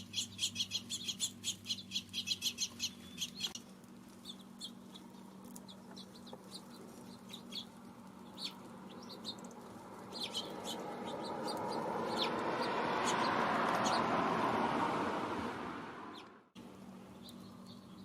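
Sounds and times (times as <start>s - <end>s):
small birds chirping: 0.0s - 14.2s, 16.1s - 18.0s.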